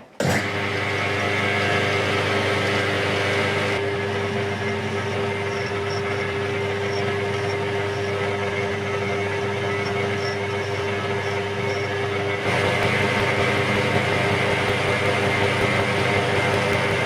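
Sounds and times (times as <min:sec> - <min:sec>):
electric motor humming: 0:00.3 - 0:17.0.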